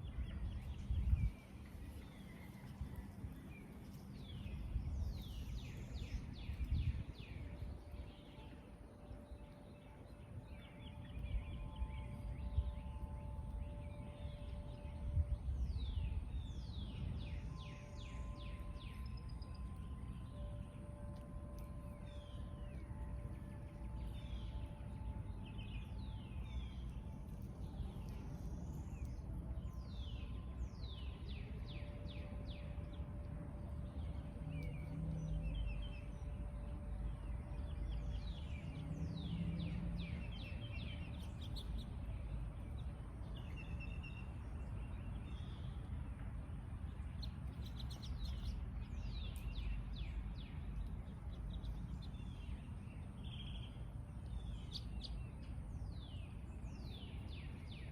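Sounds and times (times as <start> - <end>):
low background rumble: 0.0 - 57.9
songbirds chirping: 0.0 - 57.9.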